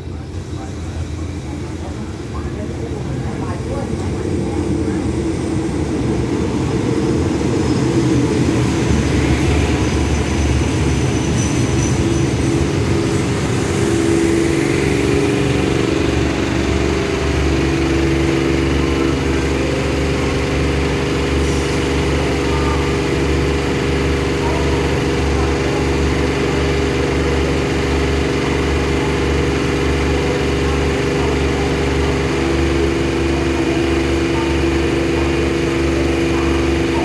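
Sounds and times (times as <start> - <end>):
diesel train pulling in: 0.0 - 37.0
steady engine drone: 0.0 - 37.0.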